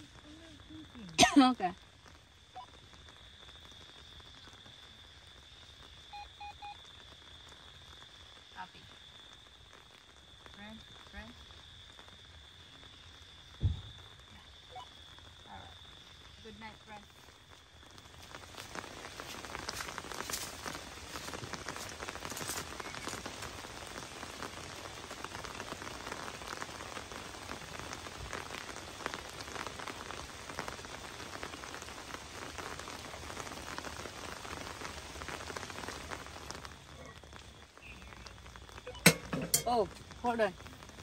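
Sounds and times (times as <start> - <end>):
rain pattering on tent fabric: 0.0 - 41.0.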